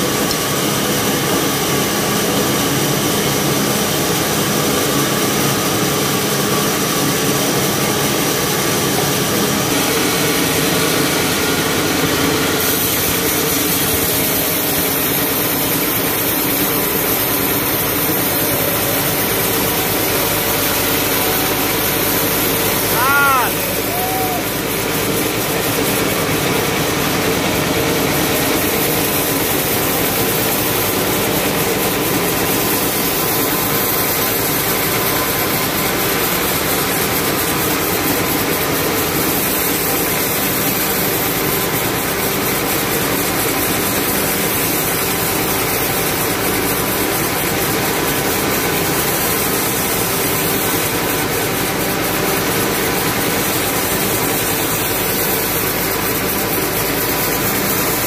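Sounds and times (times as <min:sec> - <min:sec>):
band saw machine drone: 0:00.0 - 0:58.0.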